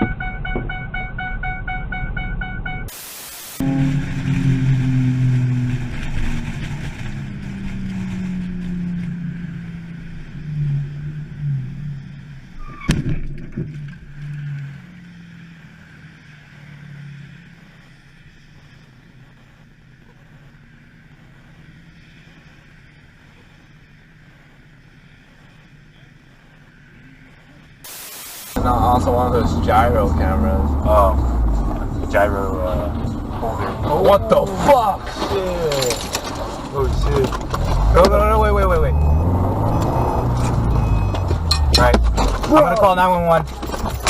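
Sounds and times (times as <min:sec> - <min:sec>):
car engine: 0:00.0 - 0:44.0
road noise: 0:00.0 - 0:44.0.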